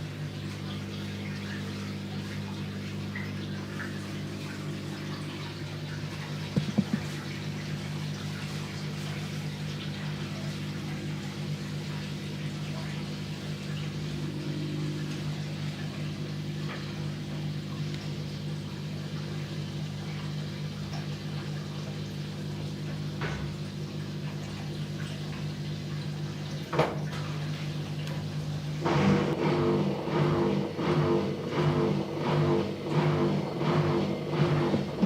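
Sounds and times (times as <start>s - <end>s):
washing machine humming: 0.0s - 35.0s
water running inside machine: 0.0s - 35.0s.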